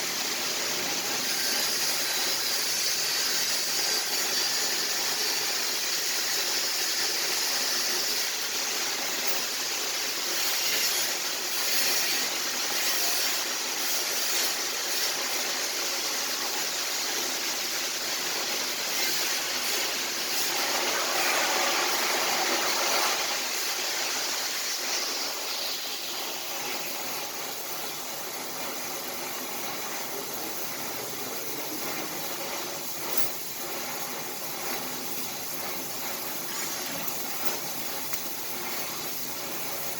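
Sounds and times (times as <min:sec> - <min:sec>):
welding arc hissing and crackling: 0:00.0 - 0:39.9.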